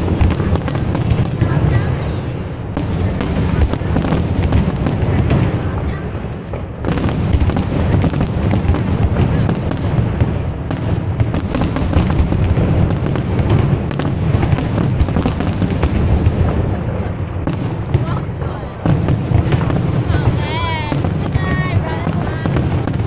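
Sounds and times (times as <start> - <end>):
fireworks booms and pops: 0.0 - 23.0.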